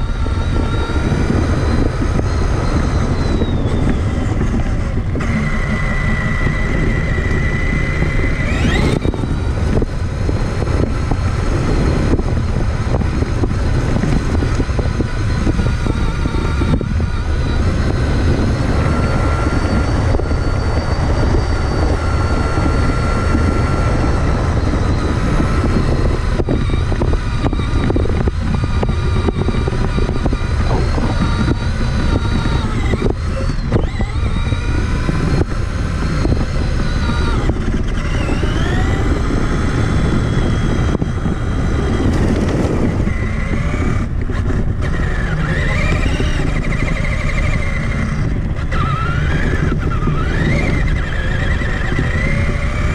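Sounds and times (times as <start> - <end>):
chassis rumble: 0.0 - 52.9
rc truck motor whine: 0.0 - 52.9.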